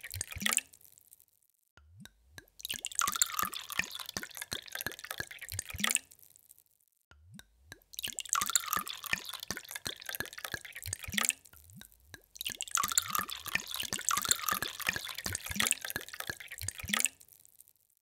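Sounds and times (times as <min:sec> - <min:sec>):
water pouring into a glass: 0:00.0 - 0:00.8, 0:02.6 - 0:06.2, 0:07.8 - 0:17.7.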